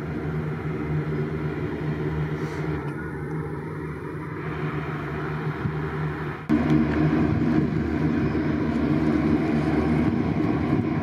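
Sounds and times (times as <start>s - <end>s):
turboprop propeller drone: 0.0s - 11.0s.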